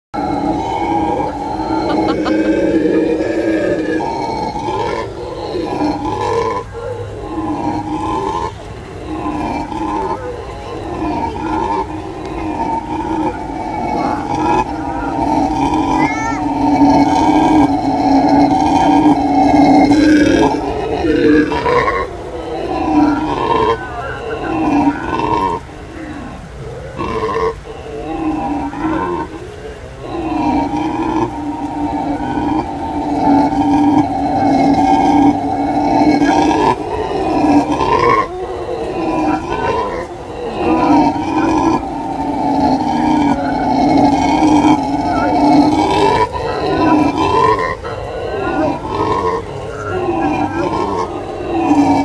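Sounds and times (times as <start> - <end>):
howler monkeys roaring: 0.1 - 52.0.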